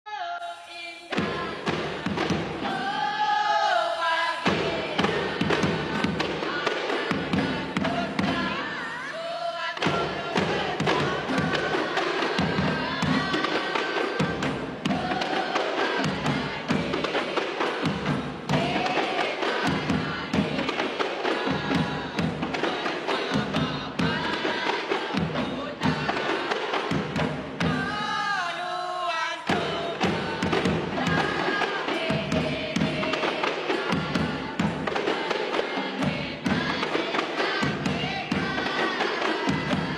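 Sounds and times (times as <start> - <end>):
voices singing: 0.1 - 39.9
frame drums in fast rhythm: 1.1 - 3.6, 4.3 - 28.4, 29.4 - 39.9.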